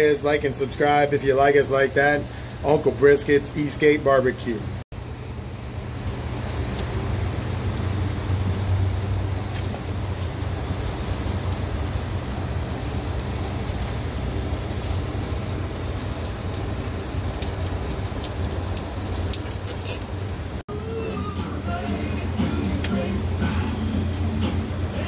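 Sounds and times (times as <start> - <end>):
chicken sizzling on grill: 0.0 - 25.0
low steady hum: 0.0 - 25.0.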